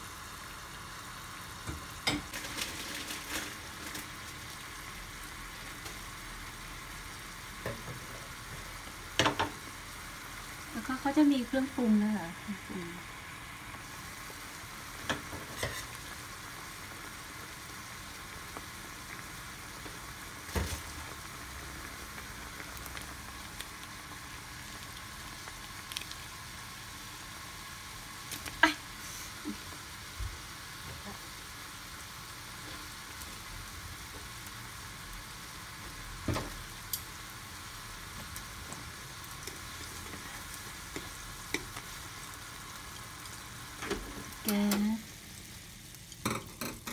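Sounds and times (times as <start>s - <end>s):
broth boiling in a pot: 0.0s - 46.9s.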